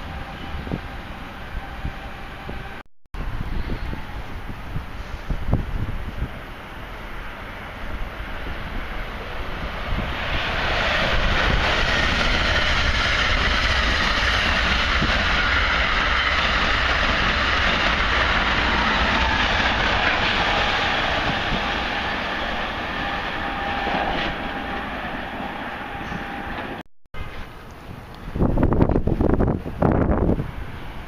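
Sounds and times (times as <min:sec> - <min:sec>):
train rushing past: 0:00.0 - 0:27.4, 0:28.4 - 0:31.0.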